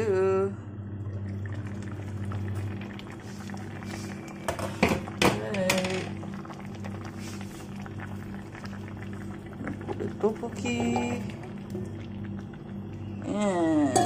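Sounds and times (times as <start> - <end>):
steady low hum: 0.0 - 14.0
stew simmering: 0.9 - 14.0.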